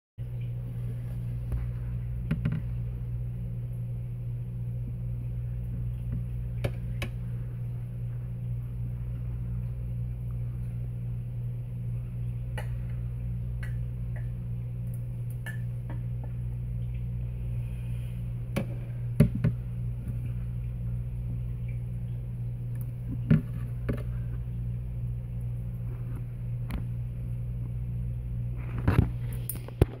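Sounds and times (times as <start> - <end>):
low electrical hum: 0.2 - 30.0.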